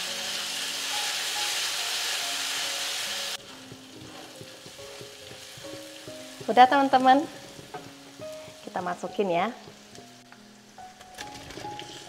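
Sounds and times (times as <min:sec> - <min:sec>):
food sizzling in hot oil: 0:00.0 - 0:12.0
soft background music: 0:00.0 - 0:12.0.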